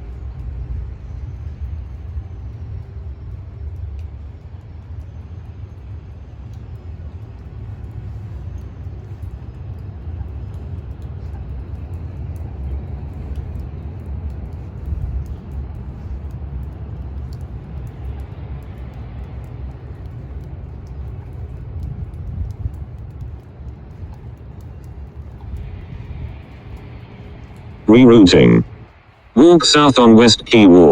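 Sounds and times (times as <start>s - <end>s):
low city rumble: 0.0s - 30.9s
faint ticks: 1.4s - 5.6s, 6.5s - 27.8s.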